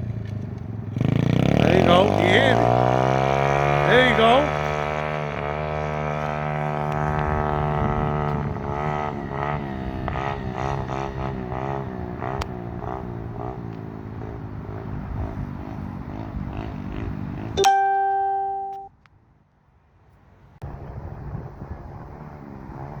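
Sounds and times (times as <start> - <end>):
motorbike engine revving: 0.0 - 17.9, 20.7 - 23.0.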